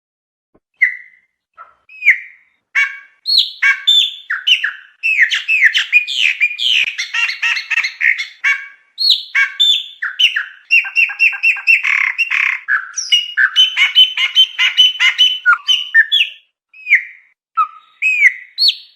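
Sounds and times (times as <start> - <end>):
blackbird singing whistles: 0.8 - 1.3, 1.9 - 2.4, 3.2 - 8.4, 9.0 - 18.9.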